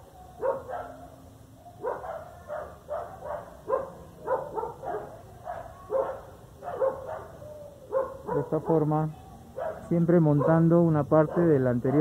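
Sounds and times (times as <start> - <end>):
dog barking: 0.2 - 12.0.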